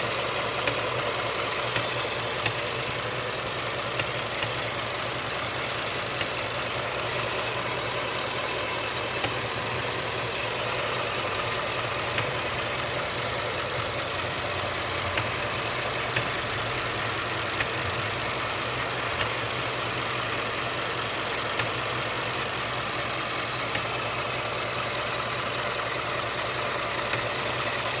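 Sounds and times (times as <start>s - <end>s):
car engine idling: 0.0s - 28.0s
engine knocking: 0.0s - 28.0s.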